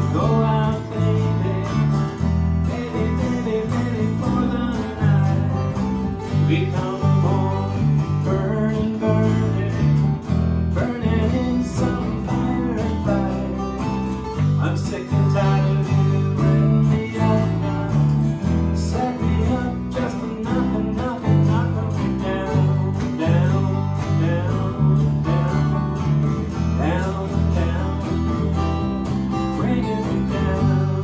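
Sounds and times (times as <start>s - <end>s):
bass line: 0.0s - 31.0s
guitars playing together: 0.0s - 31.0s.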